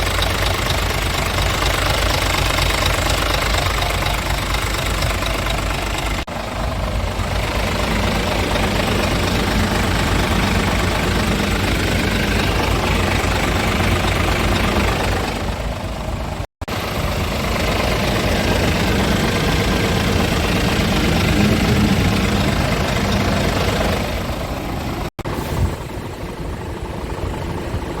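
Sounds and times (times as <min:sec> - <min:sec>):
truck diesel engine revving: 0:00.0 - 0:28.0.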